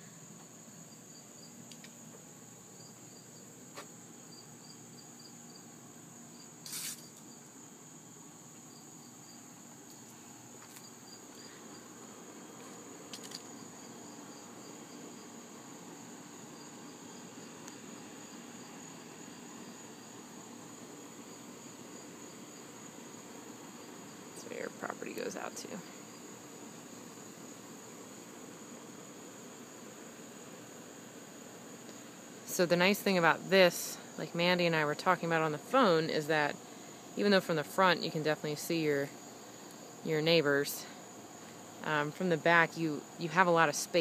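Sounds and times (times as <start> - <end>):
high insect chorus: 0.0 - 44.0.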